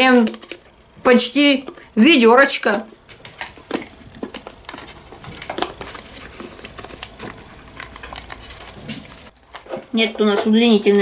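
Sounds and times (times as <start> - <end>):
plastic parts clicking and knocking: 0.0 - 10.5.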